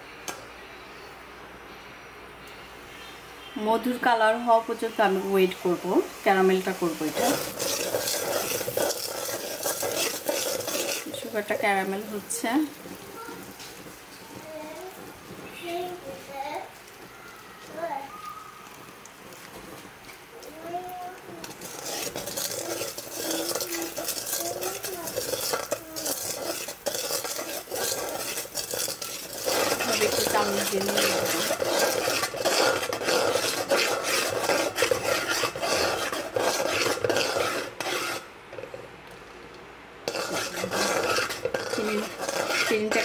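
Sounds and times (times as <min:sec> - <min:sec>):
metal utensil scraping pot: 0:06.4 - 0:20.5, 0:21.4 - 0:38.8, 0:40.0 - 0:43.0.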